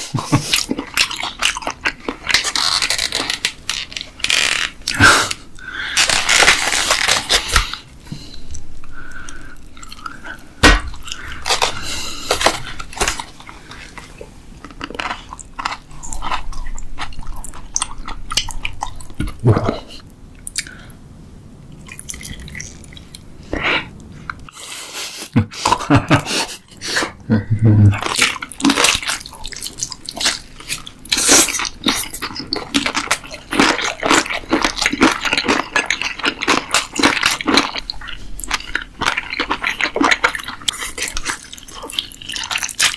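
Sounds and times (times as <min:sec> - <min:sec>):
chewing and crunching: 0:00.1 - 0:20.8, 0:27.9 - 0:42.9.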